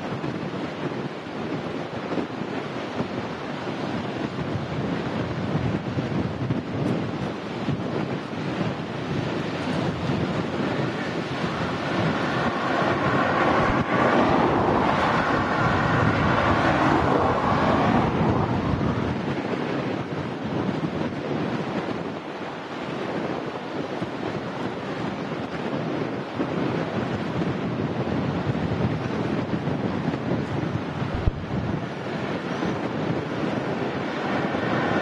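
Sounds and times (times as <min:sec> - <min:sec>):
jet engines roaring: 0:00.0 - 0:35.0
wind buffeting microphone: 0:00.0 - 0:35.0.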